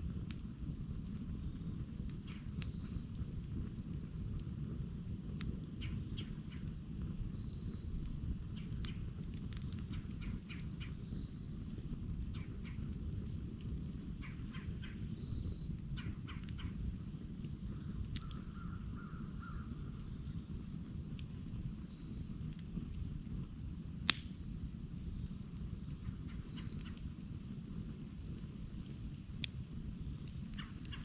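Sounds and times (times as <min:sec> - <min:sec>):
campfire crackling: 0:00.0 - 0:31.0
steady low rumble: 0:00.0 - 0:31.0.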